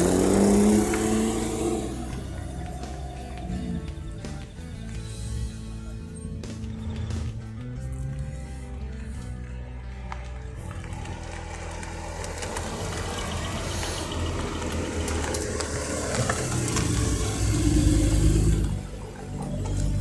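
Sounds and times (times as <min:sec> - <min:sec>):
race car engine accelerating: 0:00.0 - 0:09.0, 0:10.7 - 0:20.0.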